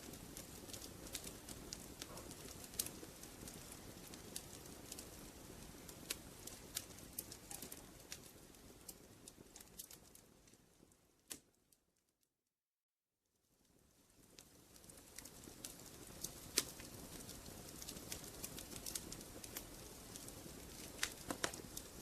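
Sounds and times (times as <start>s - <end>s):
wood fire crackling: 0.0s - 11.9s, 13.4s - 22.0s.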